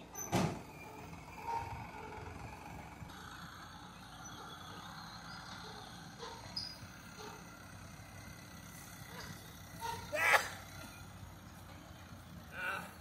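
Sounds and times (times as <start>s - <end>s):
distant diesel machinery hum: 0.0s - 13.0s.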